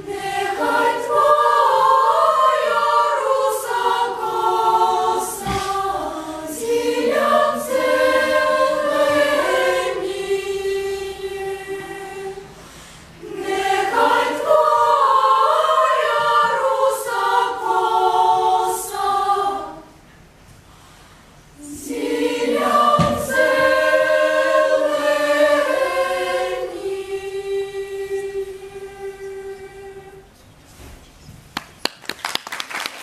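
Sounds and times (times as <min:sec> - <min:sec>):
children's choir singing: 0:00.0 - 0:20.2, 0:21.6 - 0:30.4.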